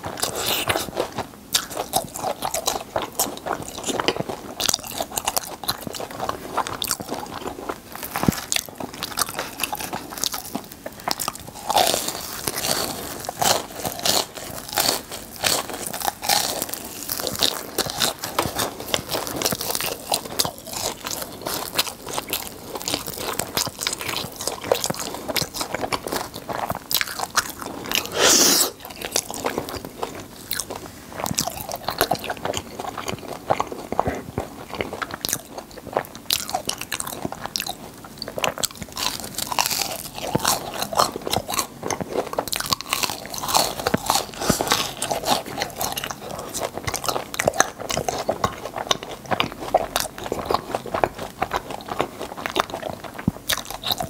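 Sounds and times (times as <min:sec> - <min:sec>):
crunching and chewing fried pastry: 0:00.0 - 0:54.0.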